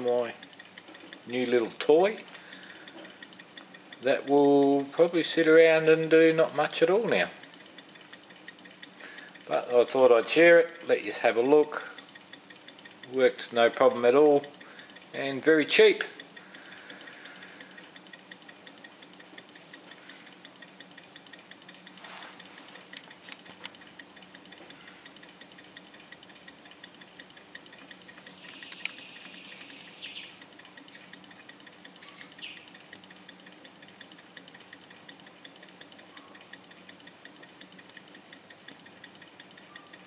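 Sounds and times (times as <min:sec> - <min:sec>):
stirling engine ticking: 0:00.0 - 0:40.0.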